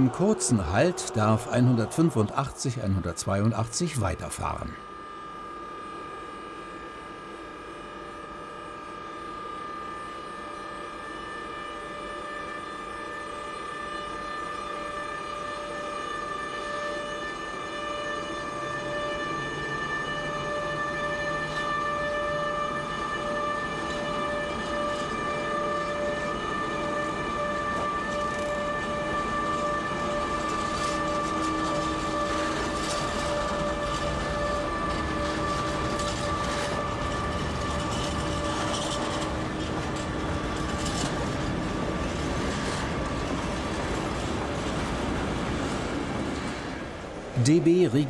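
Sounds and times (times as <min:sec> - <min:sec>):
electric locomotive whine: 0:00.0 - 0:48.0.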